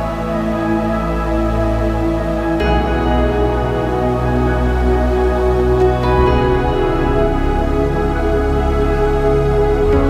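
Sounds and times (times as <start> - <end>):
slow ambient synthesizer music: 0.0 - 10.0.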